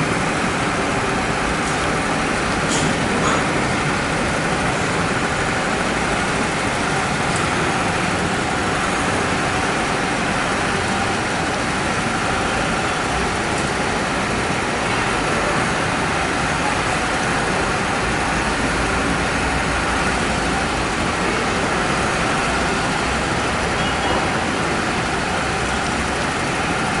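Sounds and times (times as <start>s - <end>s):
road and rail traffic: 0.0s - 27.0s.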